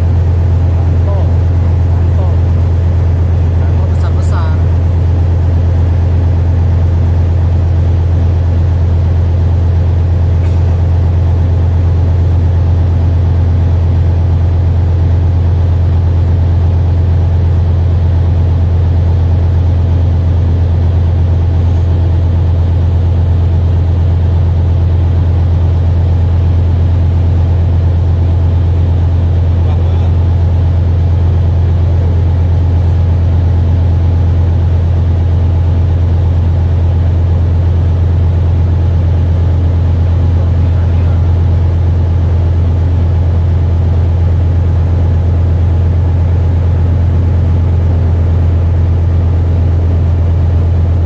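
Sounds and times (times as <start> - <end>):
boat engine droning: 0.0 - 51.0.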